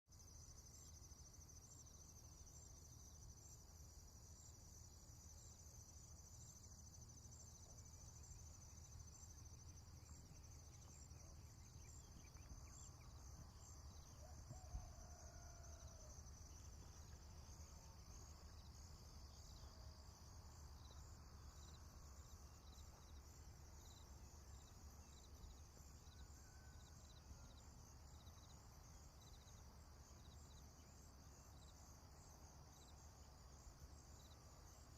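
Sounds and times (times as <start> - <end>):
insects chirping: 0.1 - 34.9.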